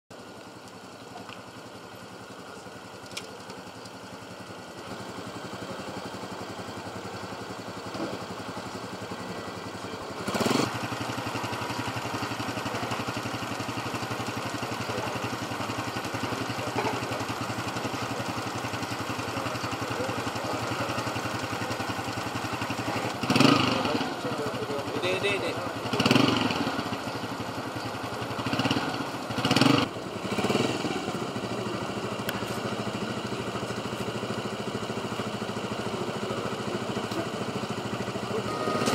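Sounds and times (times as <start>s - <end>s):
motorcycle engines idling: 0.1s - 38.9s.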